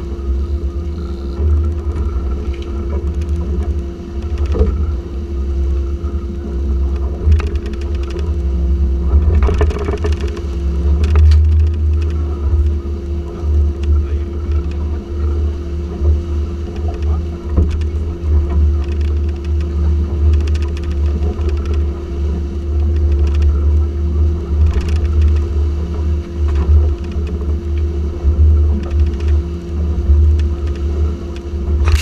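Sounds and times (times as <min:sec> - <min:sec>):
outboard motors running: 0:00.0 - 0:32.0.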